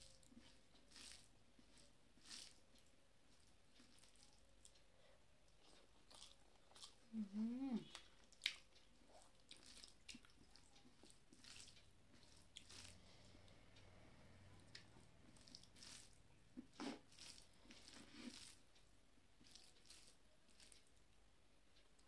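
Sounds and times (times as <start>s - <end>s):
fingers mashing rice: 0.0s - 13.9s, 14.6s - 21.2s
quiet chewing: 0.0s - 22.0s.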